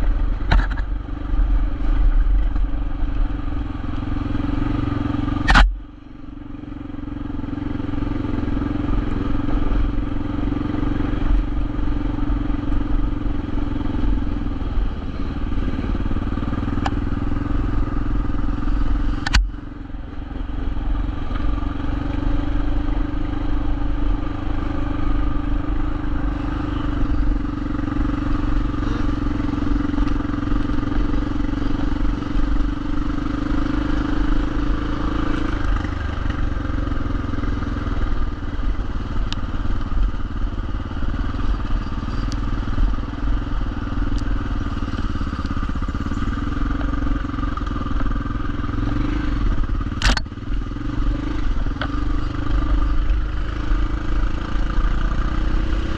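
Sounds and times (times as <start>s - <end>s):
motorcycle engine hum: 0.0s - 55.9s.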